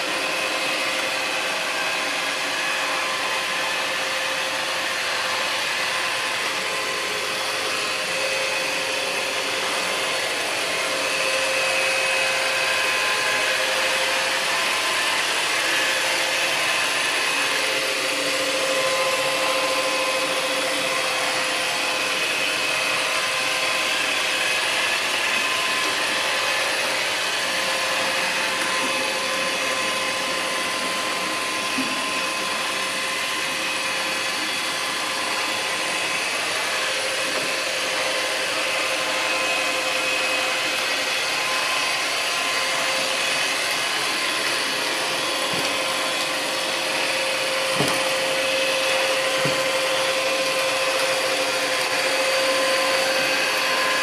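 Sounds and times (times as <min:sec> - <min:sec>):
robot vacuum motor whirring: 0:00.1 - 0:54.0.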